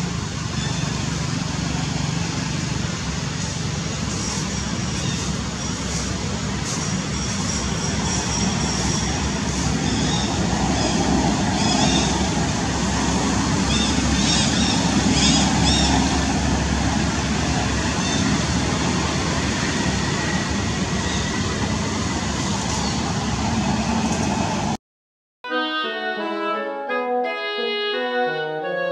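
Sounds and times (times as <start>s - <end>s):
loud outdoor background rumble: 0.0s - 24.8s.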